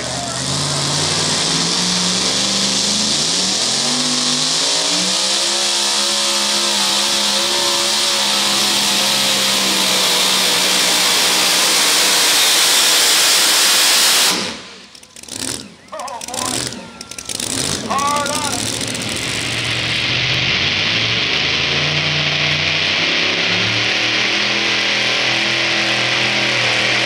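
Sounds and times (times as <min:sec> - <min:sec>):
supercharged engine at full throttle: 0:00.0 - 0:27.0.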